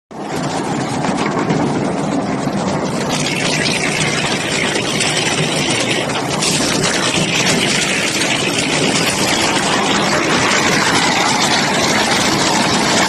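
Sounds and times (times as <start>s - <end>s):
wood-processing machinery din: 0.2s - 13.0s.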